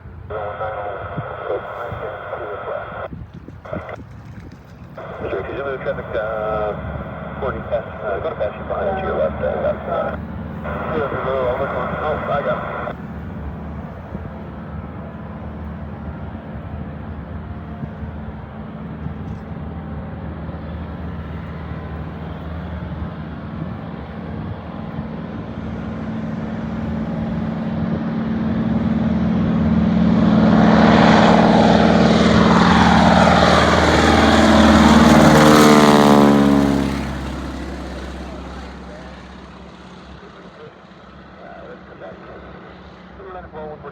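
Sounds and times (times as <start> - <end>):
propeller airplane passing by: 0.0 - 43.9.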